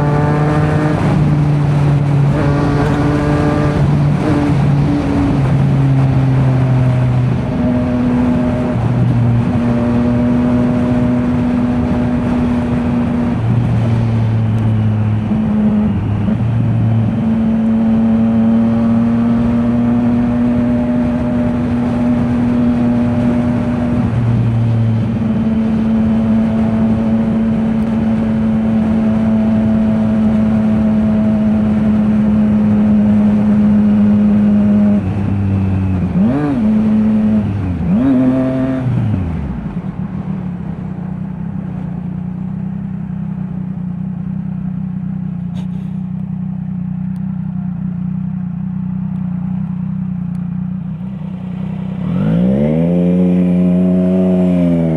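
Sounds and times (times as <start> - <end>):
motorcycle engine while riding: 0.0 - 54.9.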